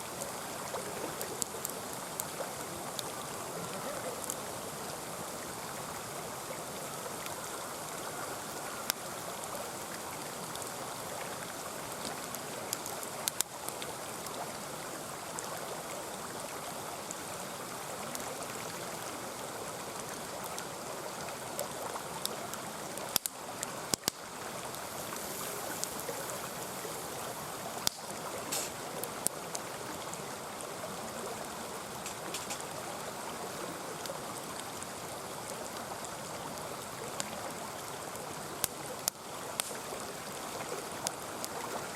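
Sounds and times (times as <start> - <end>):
campfire crackling and popping: 0.0 - 14.6, 20.0 - 30.7, 31.5 - 32.8, 34.0 - 41.7
stream babbling: 0.0 - 41.9.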